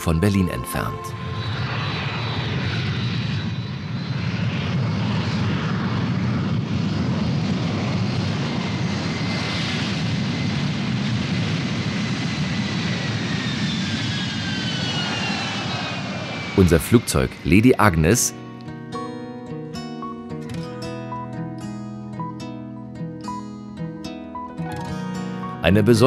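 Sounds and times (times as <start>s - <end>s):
jet engines whining: 0.0s - 23.5s, 24.1s - 26.0s.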